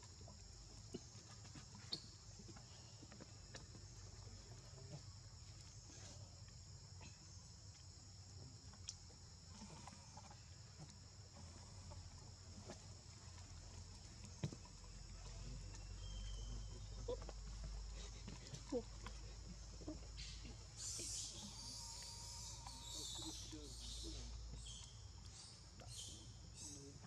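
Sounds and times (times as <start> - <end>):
high insect drone: 0.2 - 27.0.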